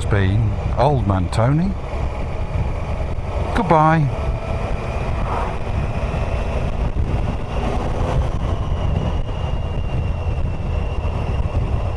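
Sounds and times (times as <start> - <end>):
motorcycle engine rumbling: 0.0 - 11.9
wind buffeting microphone: 0.0 - 11.9.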